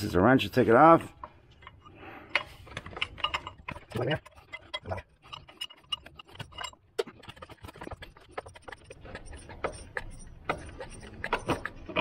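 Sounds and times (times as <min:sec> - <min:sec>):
metal parts clicking and tapping: 0:01.2 - 0:12.0.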